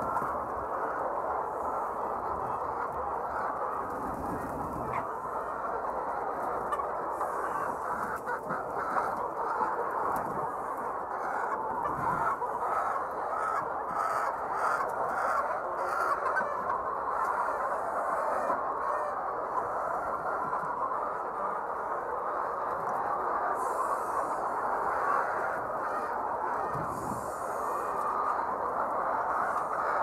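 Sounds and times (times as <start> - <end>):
hens clucking: 0.0 - 30.0.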